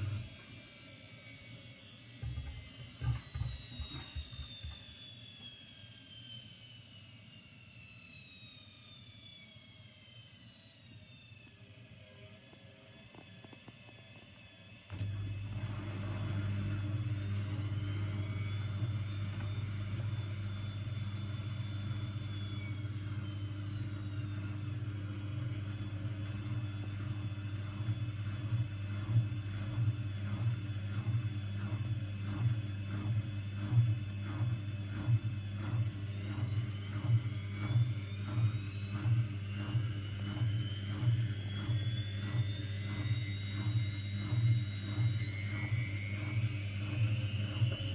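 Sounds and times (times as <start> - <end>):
washing machine spin whine: 0.0 - 47.9.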